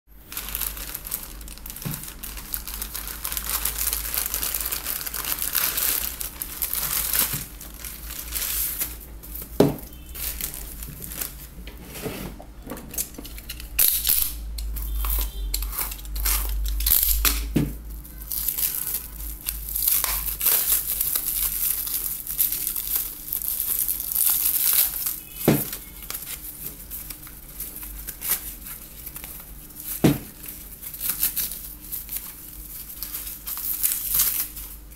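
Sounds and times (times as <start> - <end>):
plastic bag crinkling and tearing: 0.2 - 11.6, 12.9 - 34.9.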